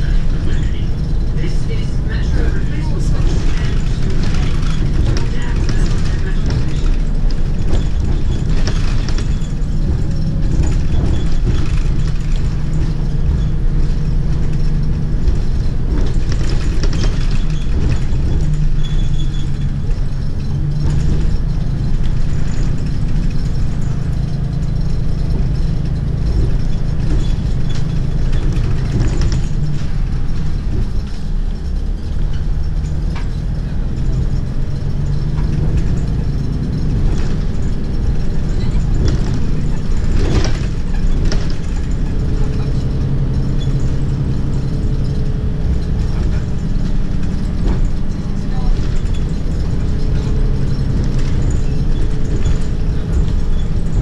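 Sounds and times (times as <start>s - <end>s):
bus engine drone: 0.0s - 54.0s
cabin fittings rattling: 0.0s - 54.0s.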